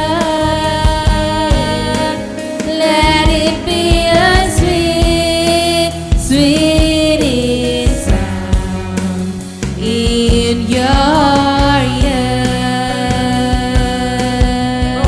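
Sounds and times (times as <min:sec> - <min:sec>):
keyboard chords: 0:00.0 - 0:15.0
person singing: 0:00.0 - 0:15.0
steady drum beat: 0:00.0 - 0:15.0.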